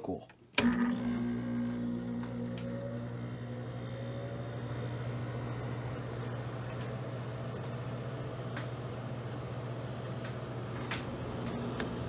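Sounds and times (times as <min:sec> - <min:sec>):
air conditioner compressor hum: 0:00.6 - 0:12.0
fan blowing air: 0:01.8 - 0:12.0.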